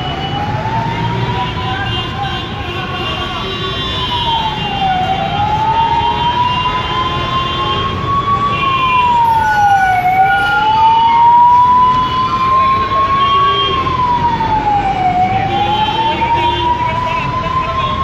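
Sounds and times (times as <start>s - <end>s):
siren wailing: 0.0s - 1.9s, 3.9s - 18.0s
street and crowd noise: 0.0s - 18.0s.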